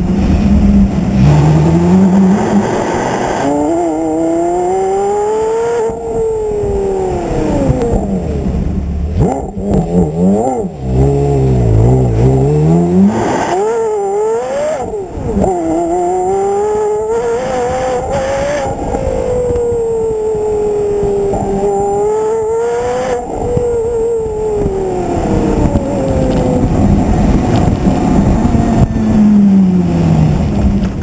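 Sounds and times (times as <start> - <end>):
sports car engine revving: 0.0 - 31.0.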